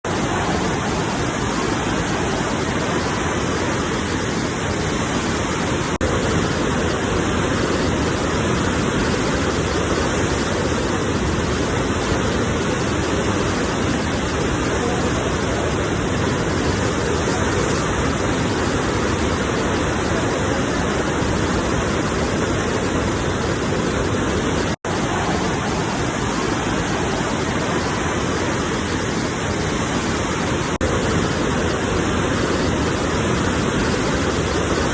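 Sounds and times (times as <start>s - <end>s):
ocean waves on shore: 0.0s - 34.9s.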